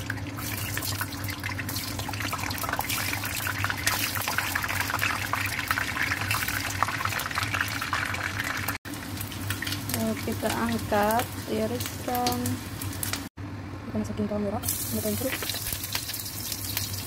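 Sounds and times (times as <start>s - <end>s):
eggs sizzling in hot oil: 0.0s - 13.3s, 14.6s - 17.0s.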